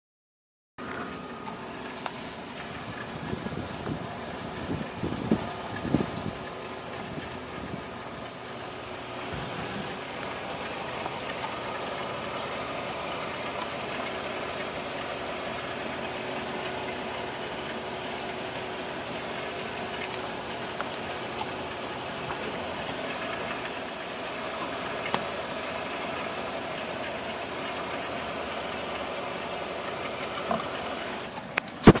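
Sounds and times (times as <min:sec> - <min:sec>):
car running noise: 0:00.8 - 0:32.0
disc brakes squealing: 0:00.8 - 0:32.0.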